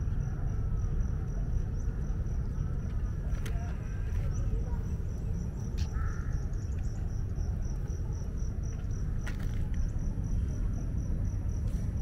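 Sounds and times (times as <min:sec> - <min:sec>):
cricket chirping trill: 0:00.0 - 0:12.0
low rumbling background noise: 0:00.0 - 0:12.0.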